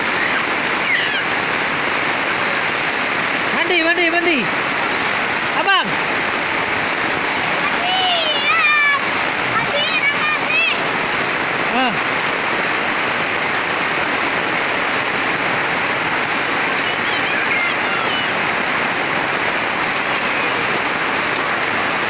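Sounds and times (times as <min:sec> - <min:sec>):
heavy rain on paving: 0:00.0 - 0:22.0
runoff pouring from roof spout: 0:00.0 - 0:22.0.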